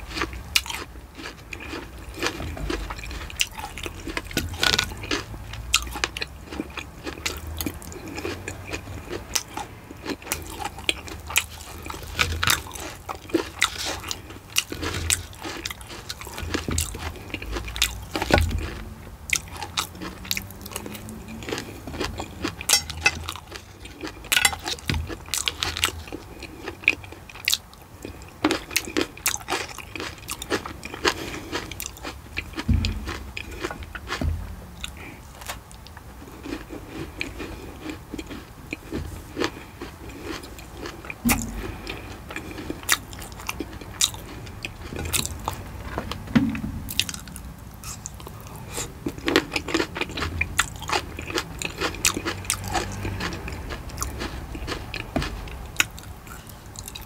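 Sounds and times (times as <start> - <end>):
person chewing and biting: 0.0 - 57.0
sharp crunches and clicks: 0.0 - 57.0.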